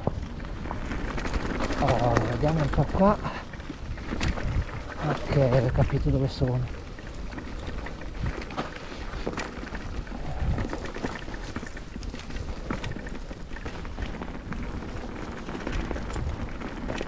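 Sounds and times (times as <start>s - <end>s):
bike knocks and rattles: 0.0s - 17.0s
tyres crunching on gravel: 0.0s - 17.0s
wind rumble on microphone: 0.0s - 17.0s.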